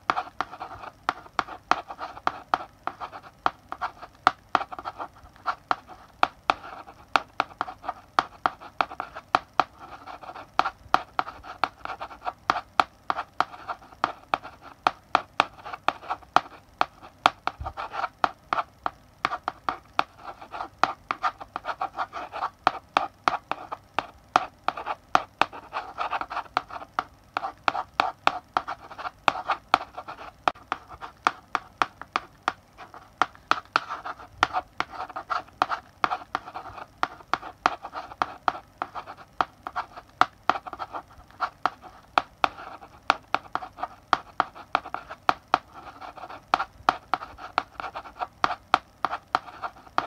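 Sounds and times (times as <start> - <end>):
chalk scratching on blackboard: 0.0 - 50.0
chalk tapping on blackboard: 0.0 - 50.0.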